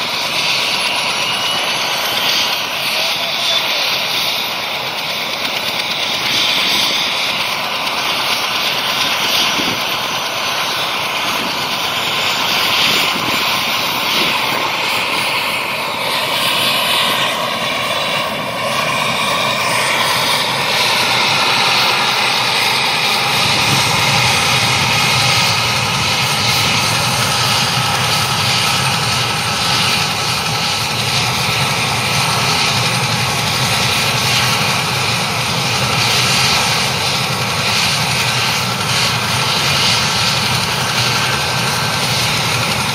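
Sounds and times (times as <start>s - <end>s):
helicopter turbine whine: 0.0s - 42.9s.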